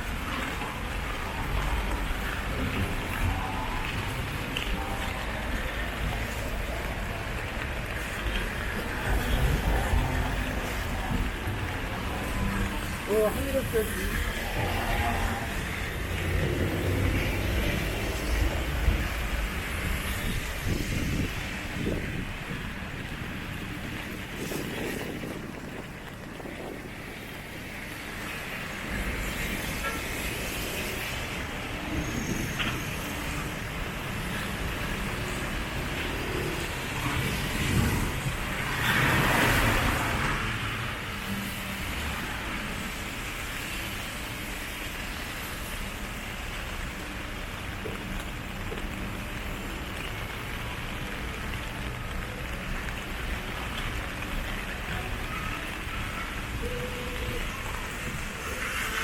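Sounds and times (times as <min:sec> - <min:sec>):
low traffic rumble: 0:00.0 - 0:59.0
passing cars: 0:00.0 - 0:59.0
rain hissing on street: 0:00.0 - 0:59.0.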